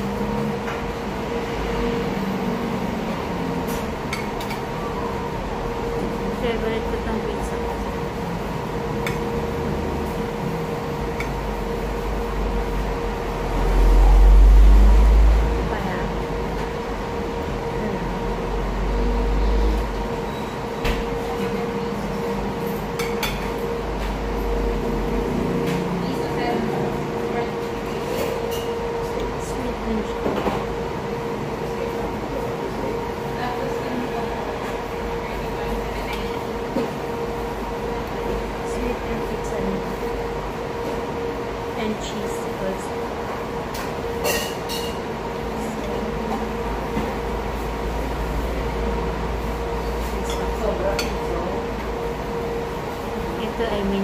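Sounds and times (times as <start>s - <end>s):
steady room hum: 0.0s - 54.0s.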